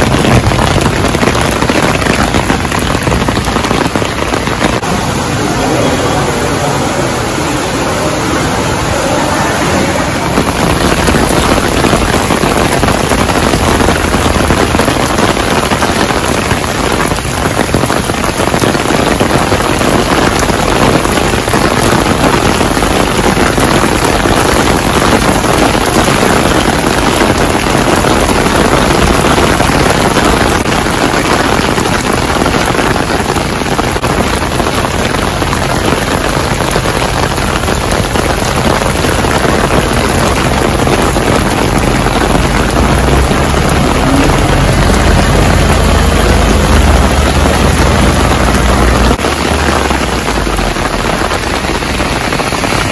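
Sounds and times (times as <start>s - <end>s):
cars and bus on wet road: 0.0s - 52.9s
torrential rain pouring: 0.0s - 52.9s.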